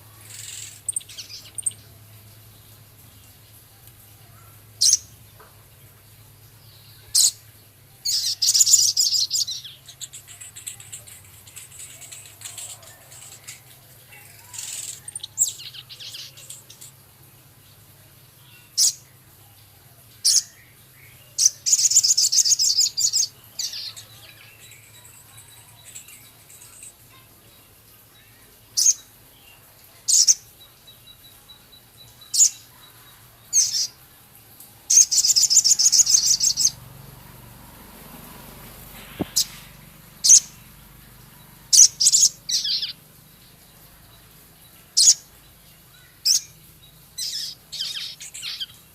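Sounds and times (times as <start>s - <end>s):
bird chirping: 0.0s - 37.0s, 38.5s - 48.9s.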